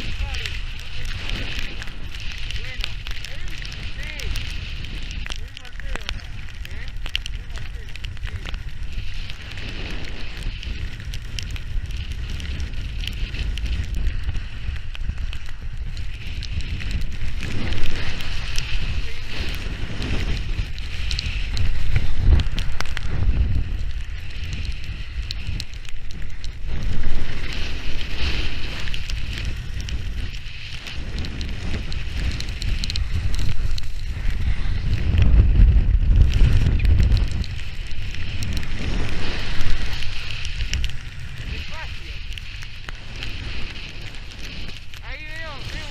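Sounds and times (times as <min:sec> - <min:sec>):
skis hissing over snow: 0:00.0 - 0:45.9
wind buffeting microphone: 0:00.0 - 0:45.9.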